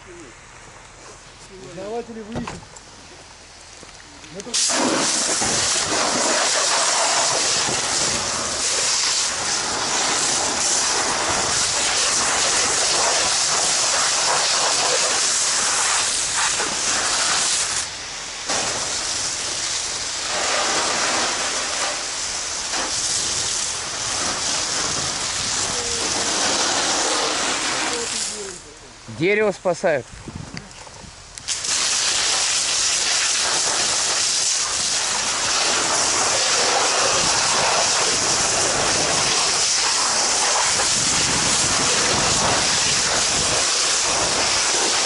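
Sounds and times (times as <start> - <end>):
fire hose spraying water: 3.6 - 30.0, 31.4 - 45.0
steam hissing: 4.4 - 28.8, 31.4 - 45.0.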